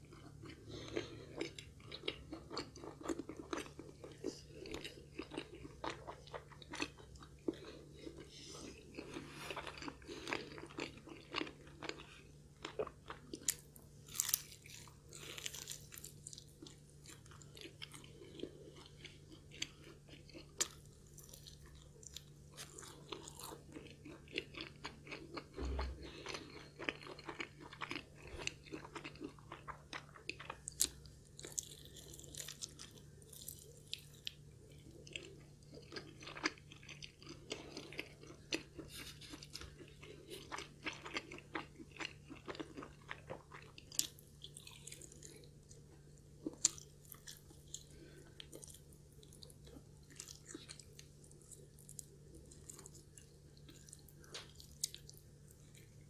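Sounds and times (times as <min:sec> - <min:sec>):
chewing: 0:00.0 - 0:56.0
crunching fried chicken: 0:00.0 - 0:56.0.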